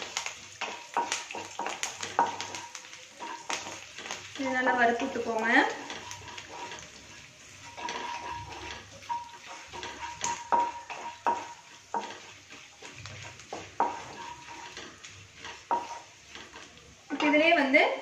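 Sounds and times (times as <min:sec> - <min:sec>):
spatula scraping and knocking pan: 0:00.0 - 0:17.6
oil sizzling: 0:00.0 - 0:18.0.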